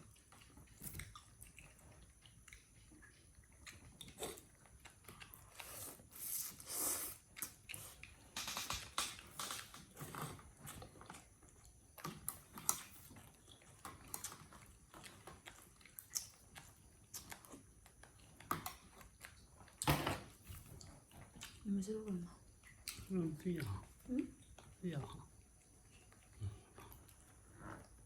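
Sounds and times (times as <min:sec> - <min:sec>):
monkey chewing and crunching food: 0:00.0 - 0:28.0.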